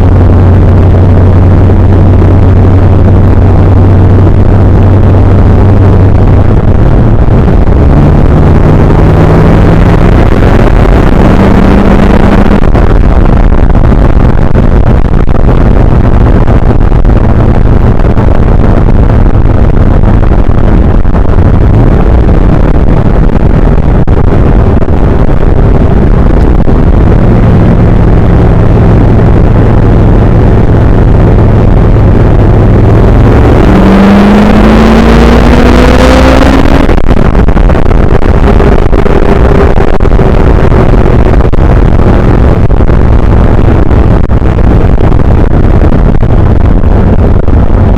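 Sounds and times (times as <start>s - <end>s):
car engine: 0.0s - 47.9s
road noise: 0.0s - 47.9s.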